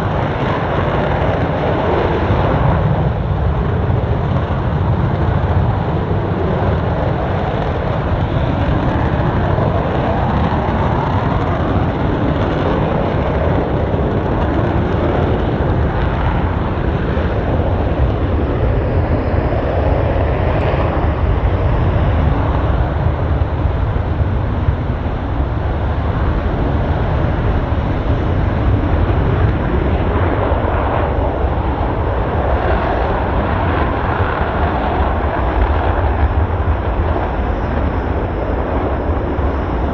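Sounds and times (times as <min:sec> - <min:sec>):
fighter jet engines roaring: 0:00.0 - 0:39.9.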